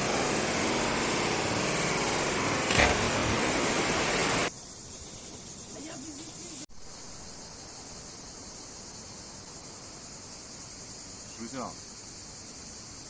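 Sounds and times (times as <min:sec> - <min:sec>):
insects buzzing shrilly: 0:00.0 - 0:13.0.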